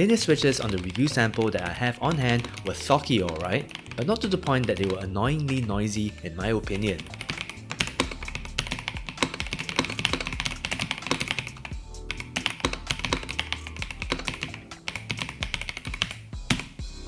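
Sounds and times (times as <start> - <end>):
fast typing on mechanical keyboard: 0.0 - 16.8
background music: 0.0 - 17.0.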